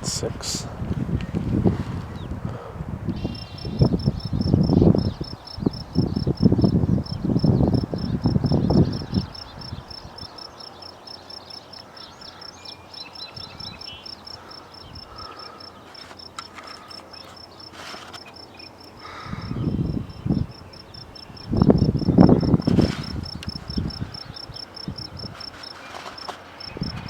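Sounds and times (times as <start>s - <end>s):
cricket chirping: 3.1s - 27.0s.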